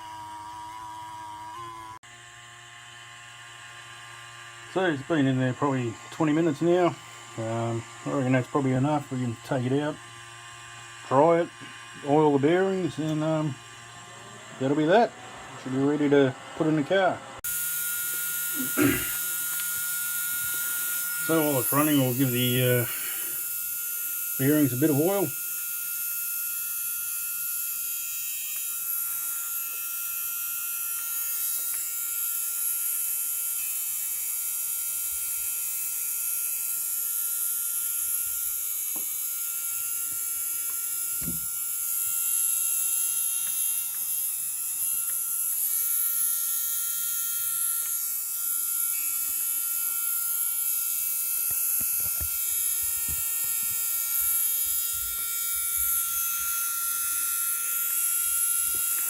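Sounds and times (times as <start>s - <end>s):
electric motor whine: 0.0s - 59.0s.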